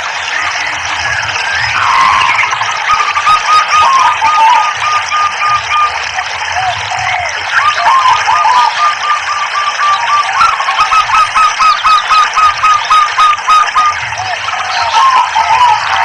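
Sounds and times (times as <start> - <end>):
trickle of running water: 0.0 - 16.0.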